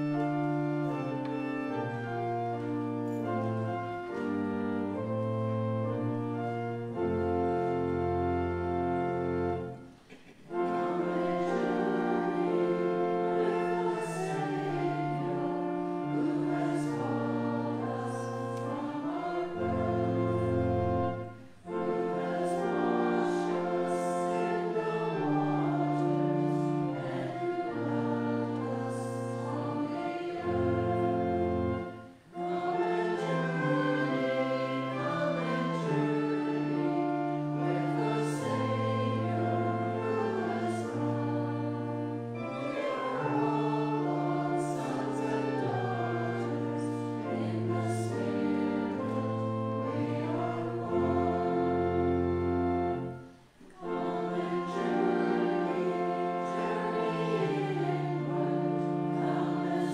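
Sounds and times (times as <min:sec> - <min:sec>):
church organ playing: 0:00.0 - 0:59.9
congregation singing a hymn: 0:00.0 - 0:59.9.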